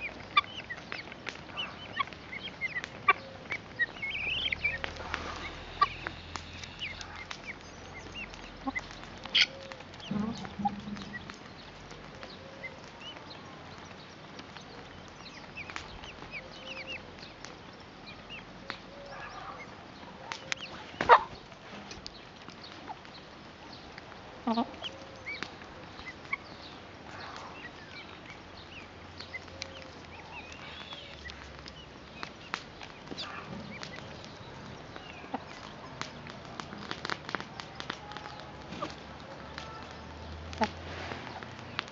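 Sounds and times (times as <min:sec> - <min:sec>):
birds calling and chirping: 0:00.0 - 0:41.9.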